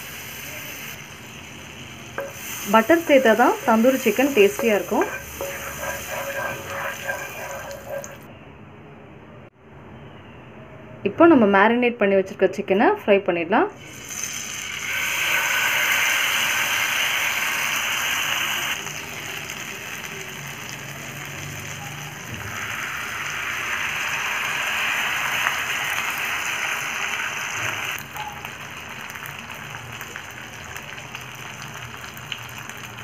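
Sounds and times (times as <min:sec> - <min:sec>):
chicken sizzling in a frying pan: 0:00.0 - 0:08.2, 0:13.8 - 0:33.0.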